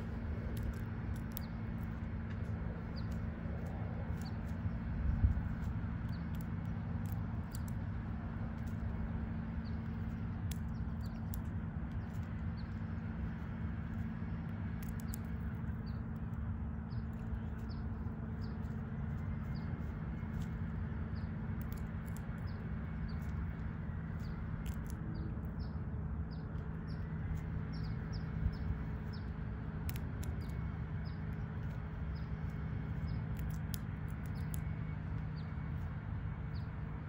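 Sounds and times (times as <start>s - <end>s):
squirrel cracking seeds: 0.0s - 37.0s
steady low hum: 0.0s - 37.0s.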